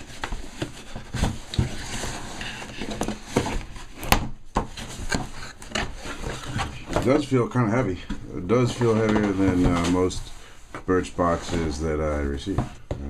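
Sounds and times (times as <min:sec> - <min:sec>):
cardboard flaps rustling: 0:00.0 - 0:13.0.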